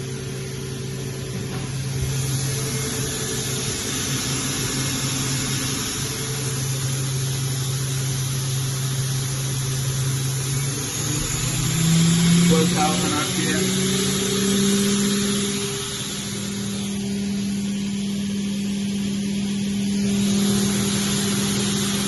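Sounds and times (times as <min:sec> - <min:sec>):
machine spindle humming: 0:00.0 - 0:22.0.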